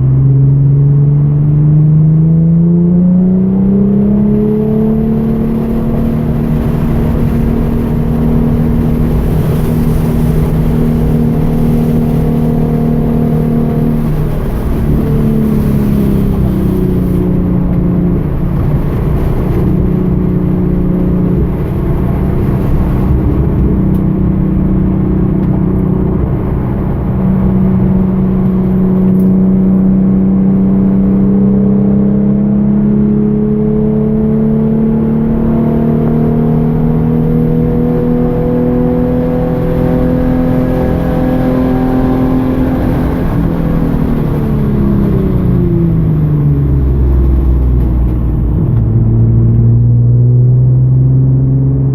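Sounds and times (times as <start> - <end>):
car engine under load: 0.0 - 51.9.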